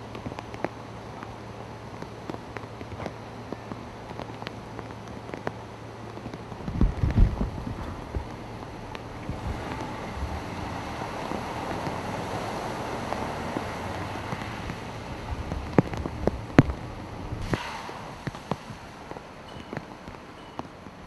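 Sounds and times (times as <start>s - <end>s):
car splashing through flood water: 3.4s - 20.4s.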